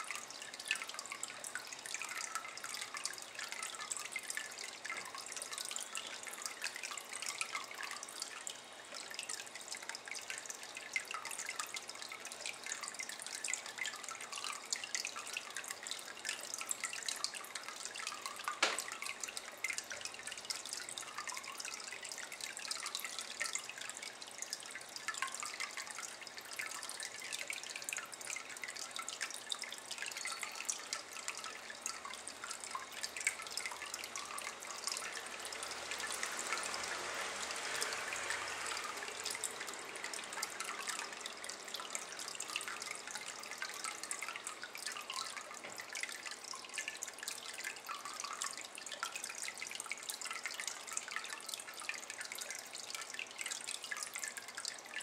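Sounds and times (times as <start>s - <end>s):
water plink: 0.0s - 23.8s, 24.4s - 54.8s
water trickling into basin: 0.0s - 55.0s.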